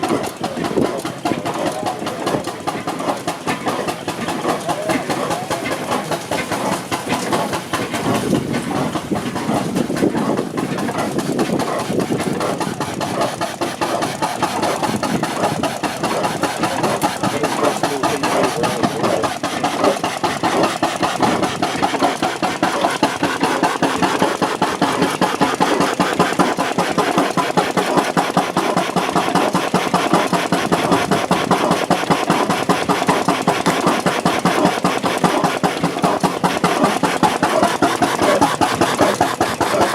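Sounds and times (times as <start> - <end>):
stationary engine running rhythmically: 0.0 - 39.9.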